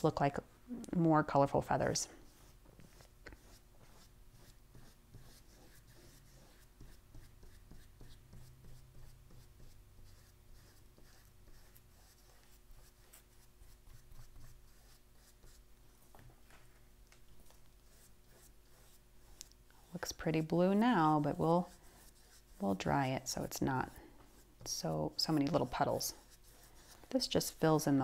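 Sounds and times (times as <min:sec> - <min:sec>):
paintbrush brushing on paper: 0:01.6 - 0:16.1, 0:17.4 - 0:28.0.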